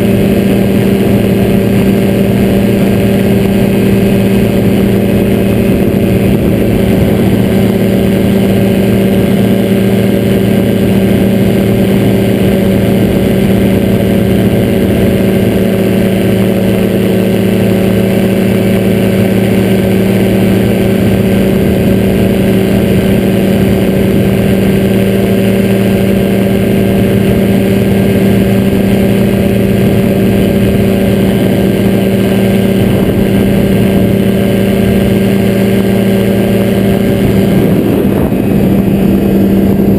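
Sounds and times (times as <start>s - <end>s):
microlight engine droning: 0.0s - 39.9s.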